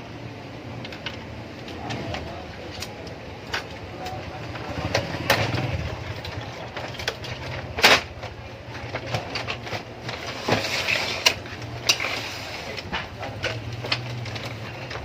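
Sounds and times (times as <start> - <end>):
clicks and knocks of parts and tools: 0.8 - 15.0.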